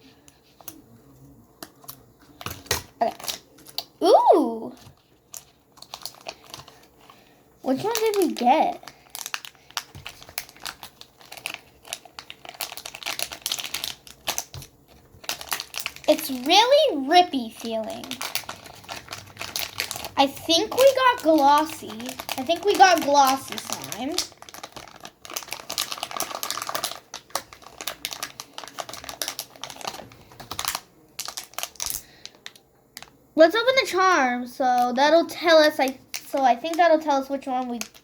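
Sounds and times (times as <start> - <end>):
plastic packaging crinkling: 1.6 - 4.0, 4.7 - 33.2, 34.8 - 38.0.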